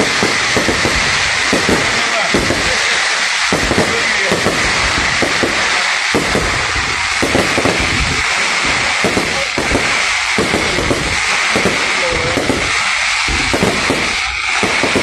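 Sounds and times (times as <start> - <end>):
firework bangs: 0.0 - 15.0
fireworks crackling hiss: 0.0 - 15.0.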